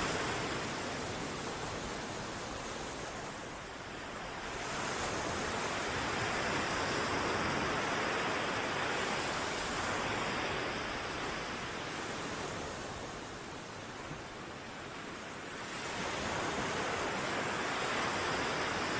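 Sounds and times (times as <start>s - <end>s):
ocean waves washing ashore: 0.0s - 18.9s.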